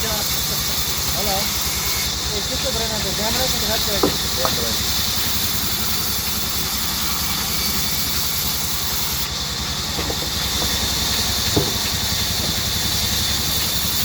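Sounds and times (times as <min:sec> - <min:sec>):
band saw running: 0:00.0 - 0:14.0.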